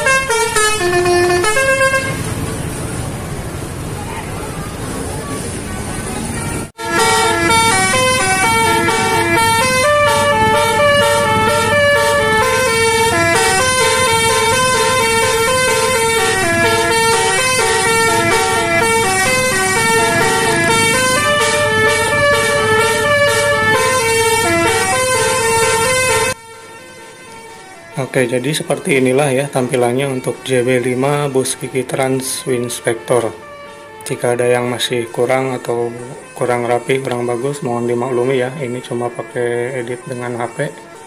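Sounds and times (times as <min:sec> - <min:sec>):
multi-tone bus air horn melody: 0:00.0 - 0:02.4, 0:06.6 - 0:41.0.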